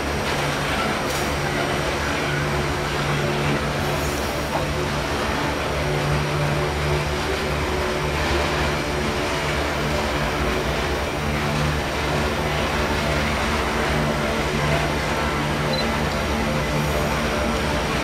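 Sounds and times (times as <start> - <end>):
diesel locomotive engine droning: 0.0 - 18.0
freight cars rumbling on rails: 0.0 - 18.0.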